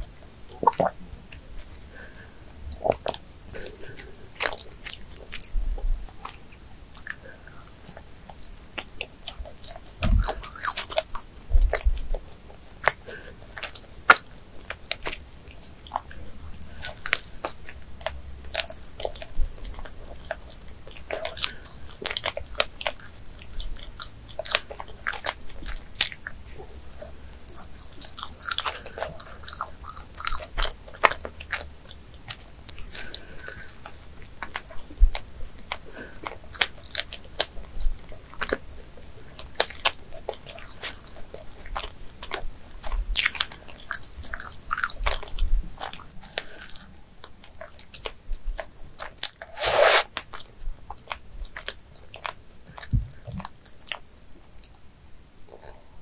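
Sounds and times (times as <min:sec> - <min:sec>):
chewing with wet mouth clicks: 0:00.5 - 0:01.4, 0:02.0 - 0:54.8.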